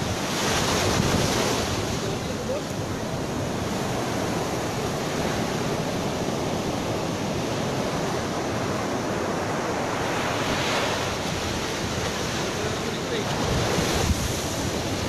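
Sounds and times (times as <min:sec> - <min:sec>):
ocean surf washing on sand: 0:00.0 - 0:15.0.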